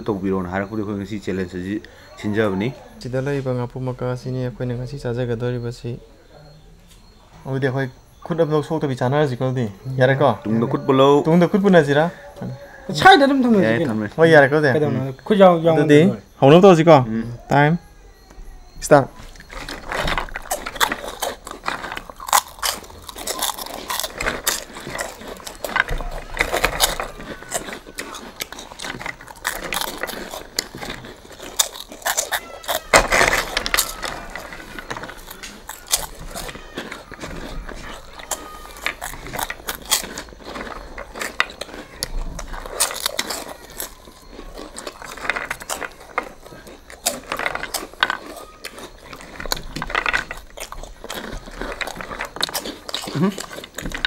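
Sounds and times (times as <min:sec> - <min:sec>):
people crunching crisp snacks: 0:06.9 - 0:17.5, 0:18.1 - 0:54.0.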